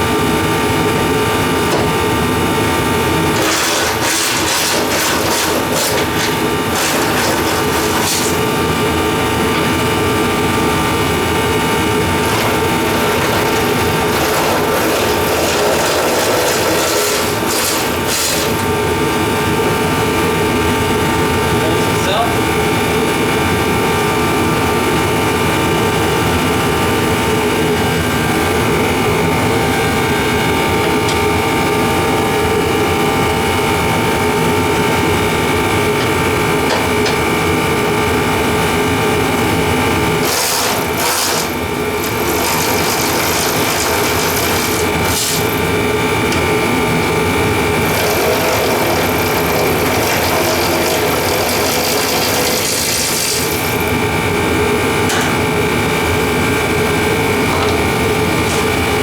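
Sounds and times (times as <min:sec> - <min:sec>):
machine humming and whirring: 0:00.0 - 0:59.0.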